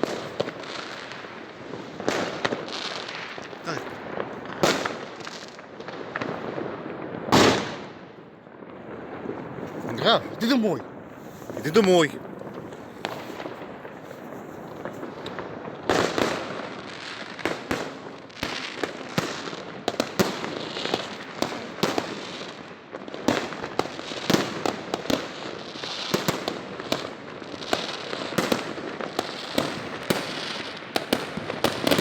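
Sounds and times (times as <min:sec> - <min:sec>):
fireworks bangs and pops: 0:00.0 - 0:32.0
fireworks crackle: 0:00.0 - 0:32.0.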